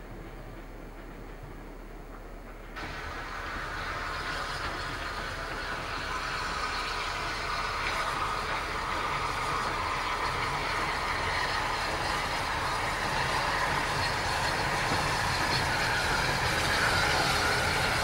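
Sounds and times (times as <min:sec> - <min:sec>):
steam locomotive rolling past: 0:00.0 - 0:18.0.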